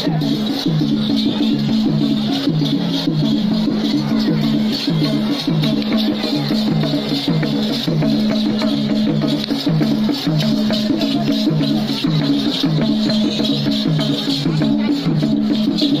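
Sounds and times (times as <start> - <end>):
drum and percussion beat: 0.0 - 16.0.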